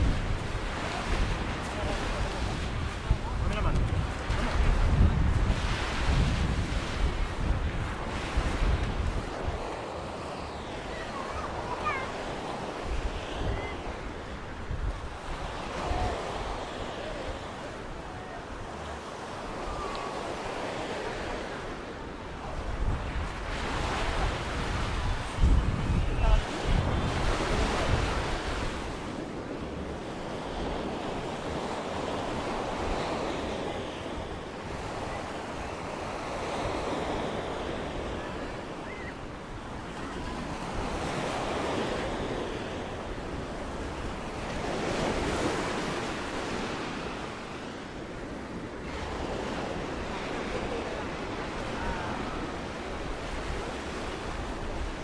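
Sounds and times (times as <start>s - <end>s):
surf breaking on beach: 0.0s - 55.0s
wind rumbling on microphone: 0.0s - 55.0s.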